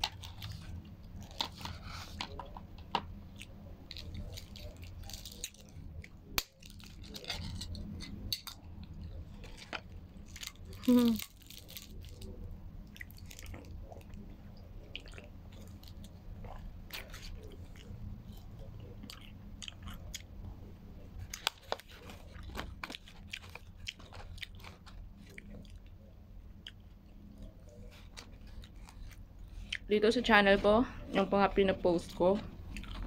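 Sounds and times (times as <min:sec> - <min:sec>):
person chewing and crunching: 0:00.0 - 0:20.5, 0:21.2 - 0:29.9, 0:32.5 - 0:33.0
low steady hum: 0:00.0 - 0:33.0.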